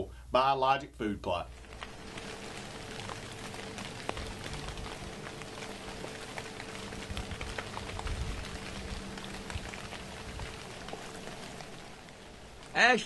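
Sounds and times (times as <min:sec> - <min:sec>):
light rain hiss: 0:00.0 - 0:13.0
raindrops ticking: 0:00.1 - 0:13.0.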